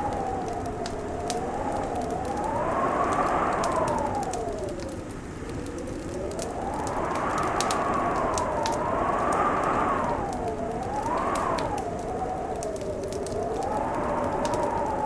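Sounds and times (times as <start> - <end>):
whistling wind: 0.0 - 15.0
wood fire crackling: 0.0 - 15.0.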